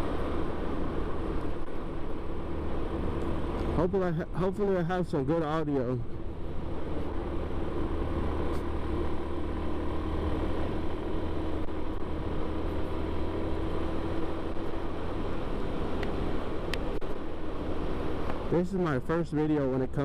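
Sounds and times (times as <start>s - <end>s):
scooter engine humming: 0.0s - 18.6s
road and wind noise: 0.0s - 20.0s.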